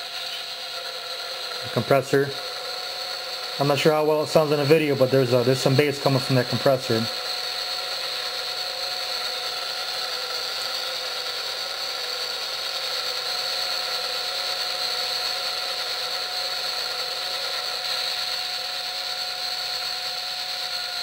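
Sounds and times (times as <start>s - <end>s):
locomotive air compressor: 0.0s - 21.0s.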